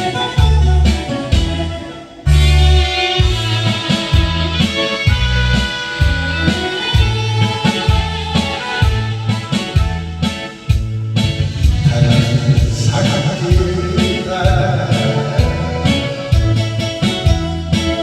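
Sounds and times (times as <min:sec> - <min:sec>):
instrumental ballad backing track: 0:00.0 - 0:18.0.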